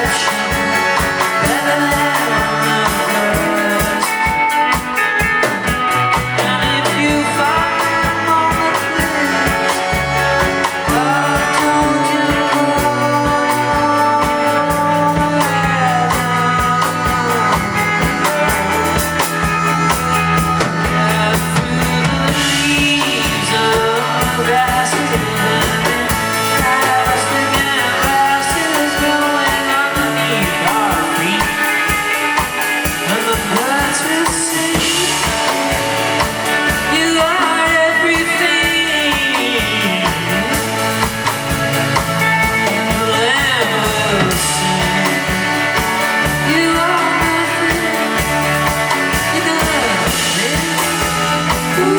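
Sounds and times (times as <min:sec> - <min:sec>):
drum kit beat: 0:00.0 - 0:51.9
live rock band playing: 0:00.0 - 0:51.9
person singing: 0:00.0 - 0:51.9.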